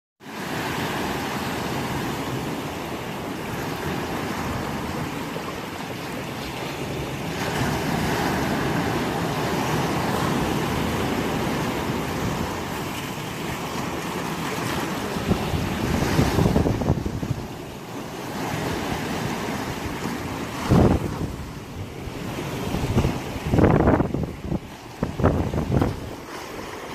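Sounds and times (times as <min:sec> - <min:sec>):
ocean waves breaking on rocks: 0:00.2 - 0:26.9.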